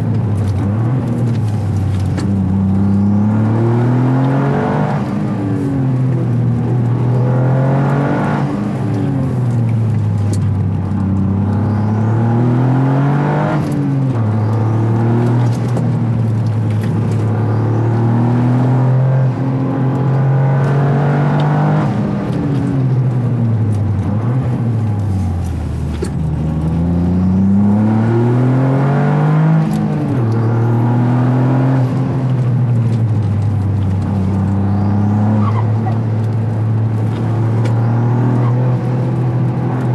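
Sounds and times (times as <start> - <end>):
car engine revving while driving: 0.0 - 39.9.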